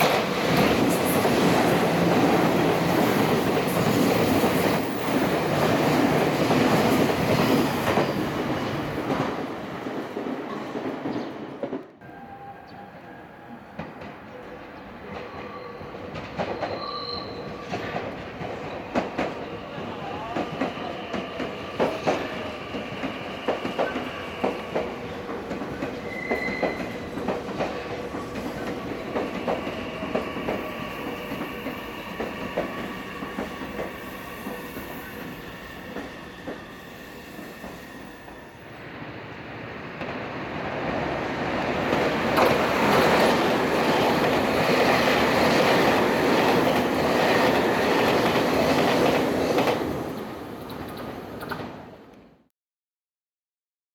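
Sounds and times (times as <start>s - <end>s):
train rushing past: 0.0s - 52.0s.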